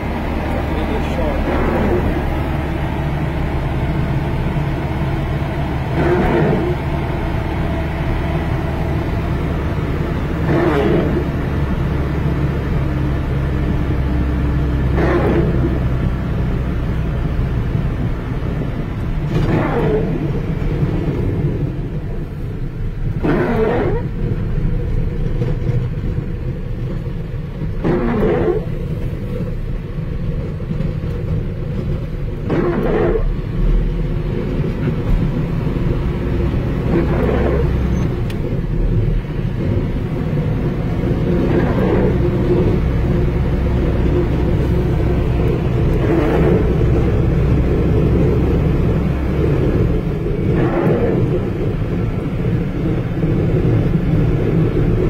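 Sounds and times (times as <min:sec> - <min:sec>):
truck engine running: 0:00.0 - 0:55.0
windscreen wiper swishing: 0:00.0 - 0:55.0.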